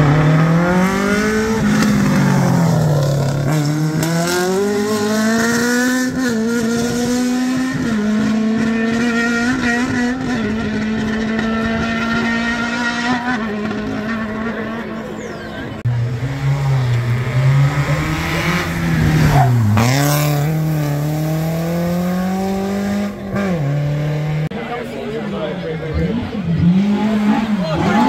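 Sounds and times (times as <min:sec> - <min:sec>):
rally car engine revving: 0:00.0 - 0:24.6, 0:25.8 - 0:28.0.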